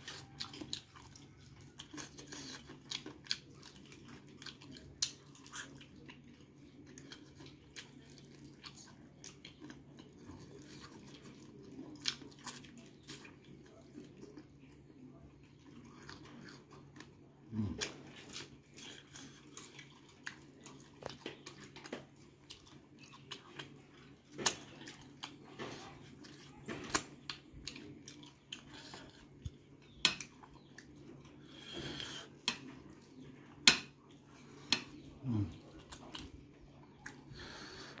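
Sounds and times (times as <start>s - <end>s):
person chewing and crunching: 0.0s - 38.0s.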